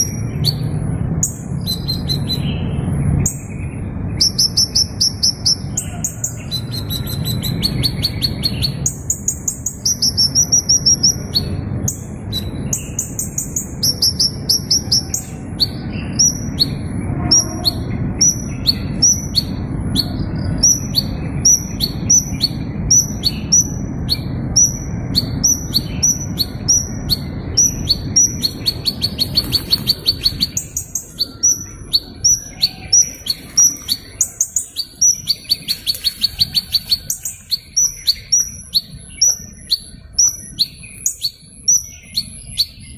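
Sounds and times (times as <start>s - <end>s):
bird buzzy trills and chirps: 0.0s - 42.9s.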